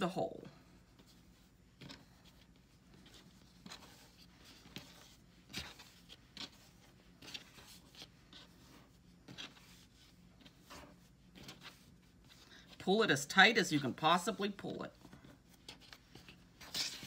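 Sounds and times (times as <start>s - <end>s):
soft rustles of fleece strips: 0.1s - 17.0s.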